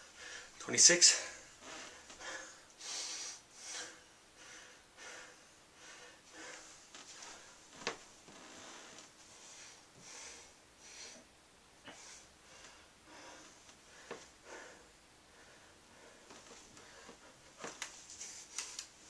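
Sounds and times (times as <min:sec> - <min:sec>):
man breathing hard: 0:00.0 - 0:07.6, 0:08.4 - 0:18.6.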